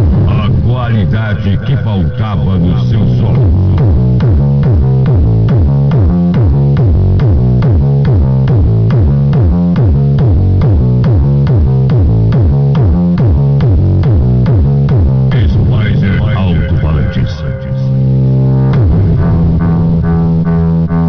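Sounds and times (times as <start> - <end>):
loud electronic dance music: 0.0 - 21.0.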